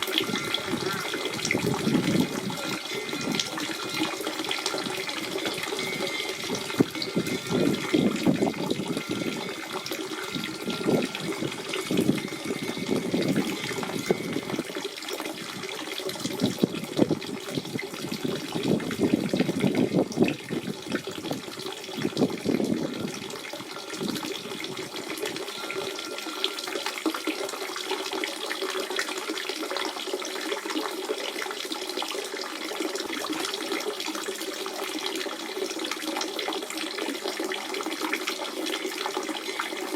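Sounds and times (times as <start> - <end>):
spring water gurgling: 0.0 - 39.9.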